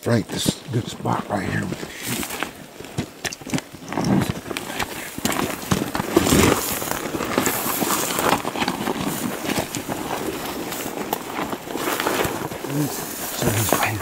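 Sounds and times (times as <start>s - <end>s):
gravel crunching: 0.0s - 14.0s
clothing and gear rustling: 0.4s - 14.0s
small clicks and scrapes: 1.9s - 14.0s.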